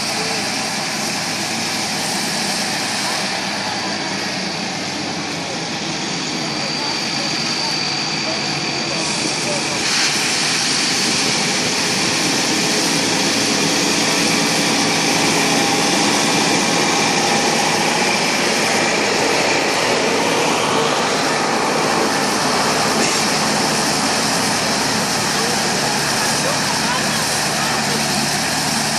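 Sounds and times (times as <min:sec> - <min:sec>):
combine harvester running: 0:00.0 - 0:28.9.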